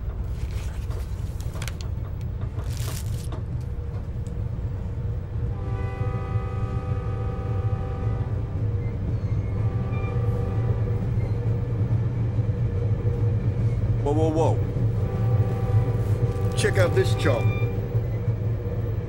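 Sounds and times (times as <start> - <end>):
train car rumbling: 0.0 - 19.0.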